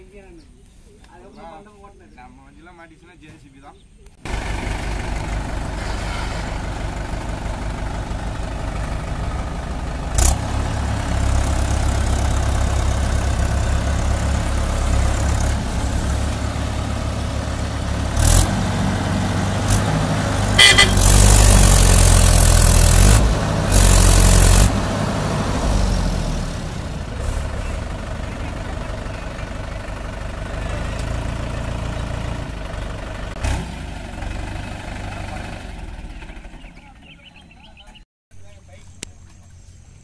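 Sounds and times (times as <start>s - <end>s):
tractor diesel engine revving: 4.2s - 37.5s.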